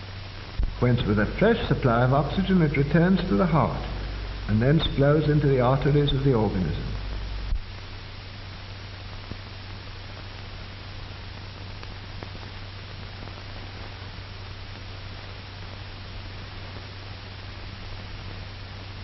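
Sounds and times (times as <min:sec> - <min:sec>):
film soundtrack hiss and hum: 0:00.0 - 0:19.0.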